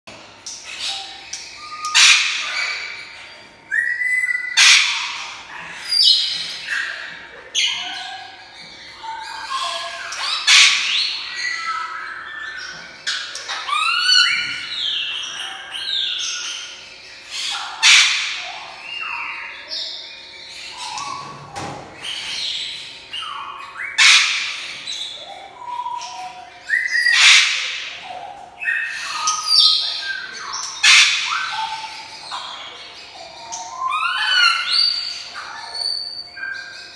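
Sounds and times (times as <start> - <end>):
parrot squawking: 0.6 - 36.9.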